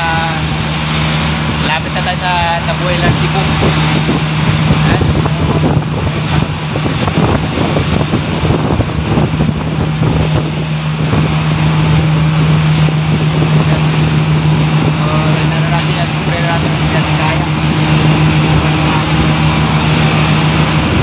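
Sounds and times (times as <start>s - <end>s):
ship engine drone: 0.0s - 21.0s
wind buffeting microphone: 0.0s - 21.0s.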